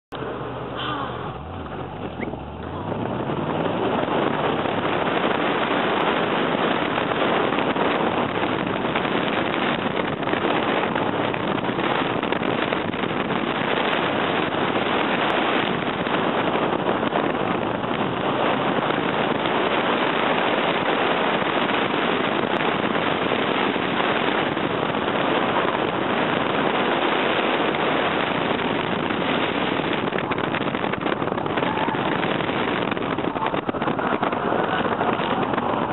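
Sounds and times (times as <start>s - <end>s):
car engine accelerating: 0.1s - 35.9s
wind buffeting on microphone: 0.1s - 35.9s.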